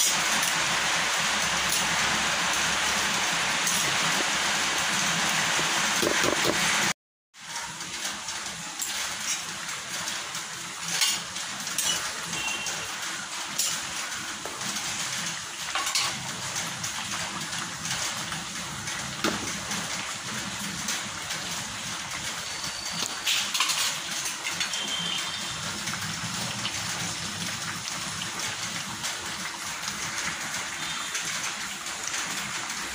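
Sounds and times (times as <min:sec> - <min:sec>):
curry simmering and bubbling: 0:00.0 - 0:32.9.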